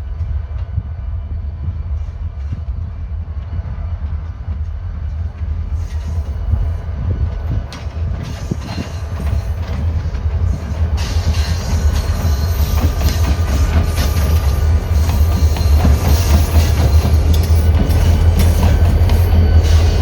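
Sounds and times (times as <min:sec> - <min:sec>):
diesel locomotives running: 0:00.0 - 0:20.0
wind buffeting microphone: 0:00.0 - 0:20.0.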